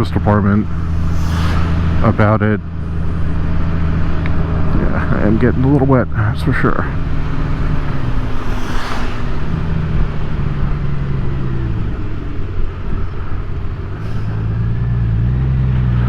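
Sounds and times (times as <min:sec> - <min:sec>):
wet road noise: 0:00.0 - 0:16.0
wind noise: 0:00.0 - 0:16.0.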